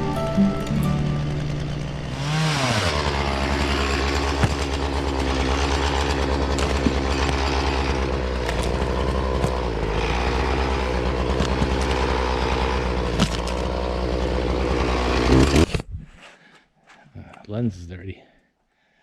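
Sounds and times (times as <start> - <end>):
chainsaw cutting under load: 0.0 - 15.6.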